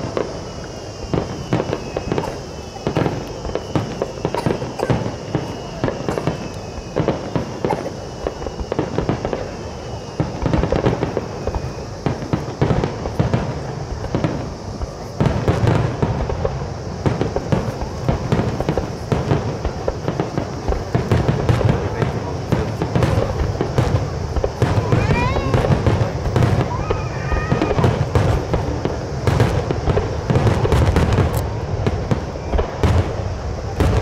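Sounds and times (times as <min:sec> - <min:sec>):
fireworks launching and bursting: 0:00.0 - 0:34.0.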